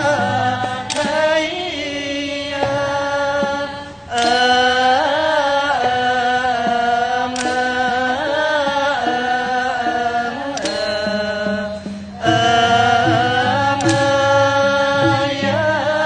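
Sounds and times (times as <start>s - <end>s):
chorus singing long notes: 0.0s - 16.0s
traditional instruments playing: 0.0s - 16.0s.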